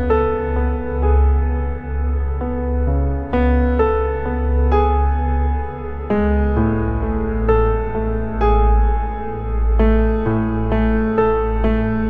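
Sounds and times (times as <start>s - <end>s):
piano-like notes: 0.0s - 12.0s.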